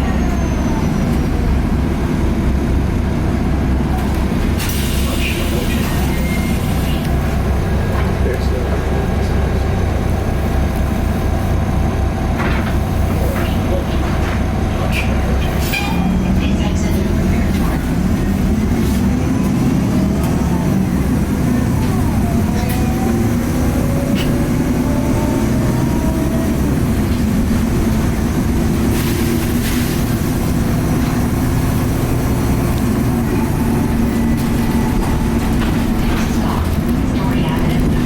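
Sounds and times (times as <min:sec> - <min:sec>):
diesel bus engine rumble: 0:00.0 - 0:38.0.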